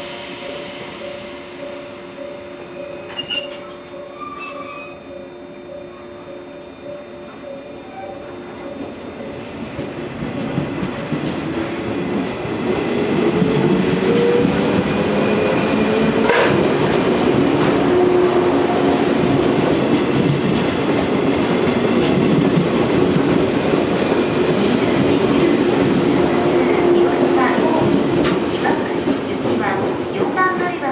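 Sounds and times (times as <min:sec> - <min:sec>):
electric train motor hum: 0:00.0 - 0:04.3, 0:05.0 - 0:29.4.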